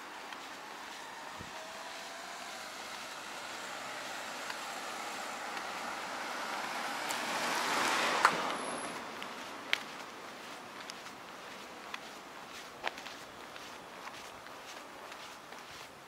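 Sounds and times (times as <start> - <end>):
road vehicle passing by: 0.0 - 15.8.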